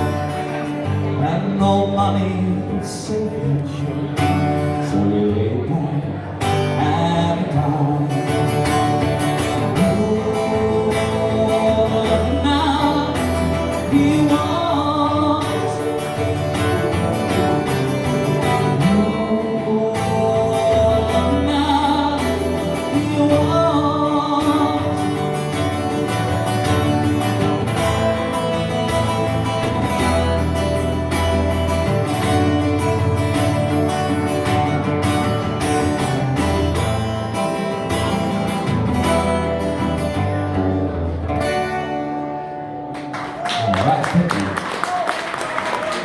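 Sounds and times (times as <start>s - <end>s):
acoustic guitar strumming: 0.0s - 43.4s.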